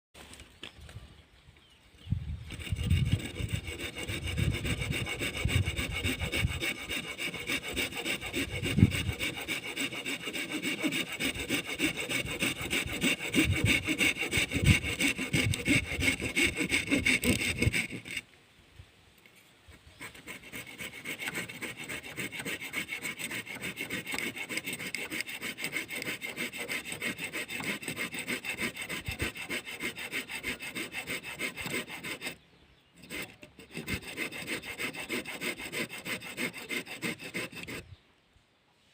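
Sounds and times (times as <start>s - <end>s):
small saw cutting: 2.0s - 18.3s, 19.2s - 38.0s.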